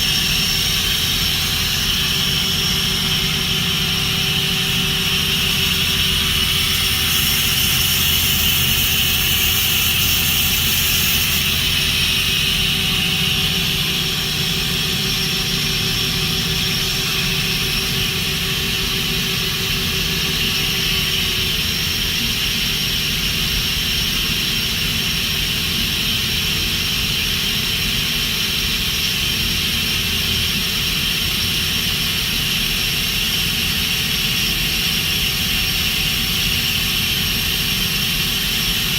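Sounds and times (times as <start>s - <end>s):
machine hum and hiss: 0.0s - 38.9s
steady whining tones: 0.0s - 38.9s.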